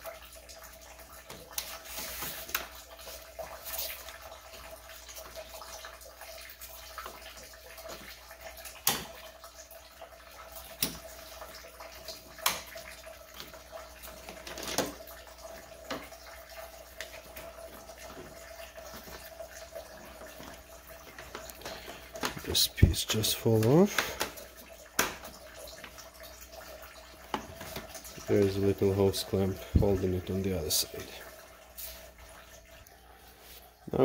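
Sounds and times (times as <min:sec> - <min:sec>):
coolant trickling into a pan: 0:00.0 - 0:34.0.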